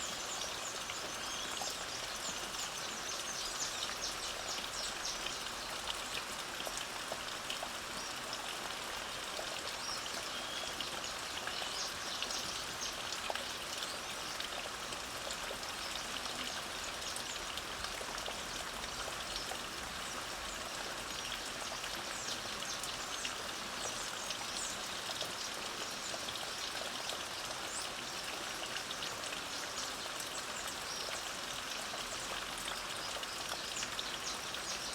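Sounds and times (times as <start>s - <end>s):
light rain falling: 0.0s - 34.9s.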